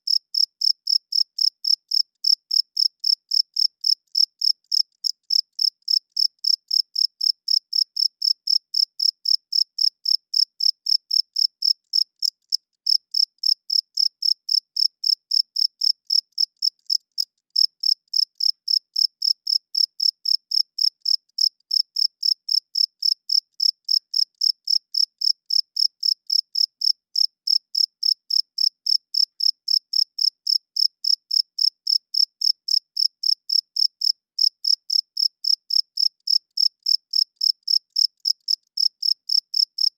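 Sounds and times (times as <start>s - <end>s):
cricket chirping: 0.1s - 39.9s.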